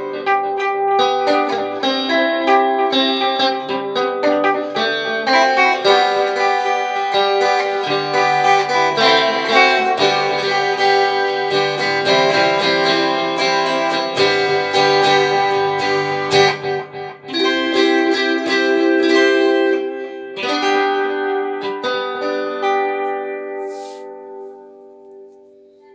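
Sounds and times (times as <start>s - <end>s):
guitar picking and chords: 0.0s - 25.9s.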